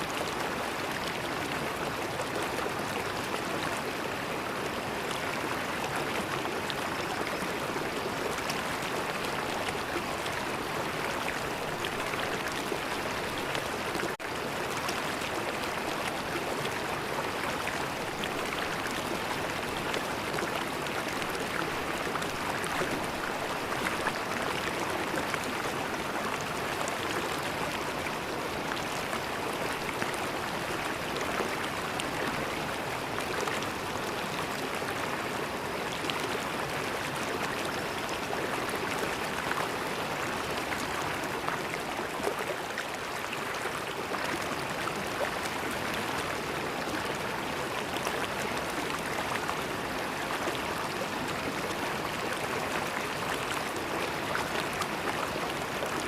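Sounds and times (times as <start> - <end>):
river water flowing over streambed: 0.0 - 56.0.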